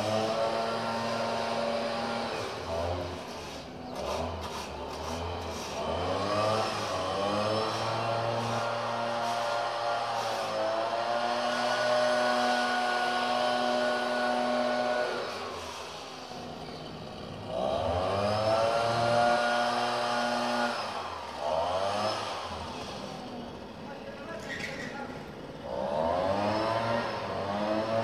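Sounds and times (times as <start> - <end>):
leaf blower engine revving: 0.0 - 28.0.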